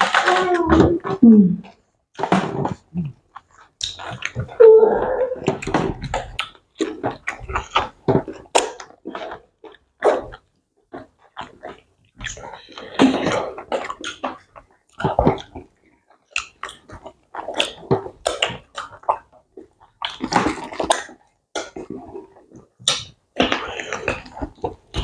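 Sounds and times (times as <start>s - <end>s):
people chewing and smacking: 0.0s - 25.0s.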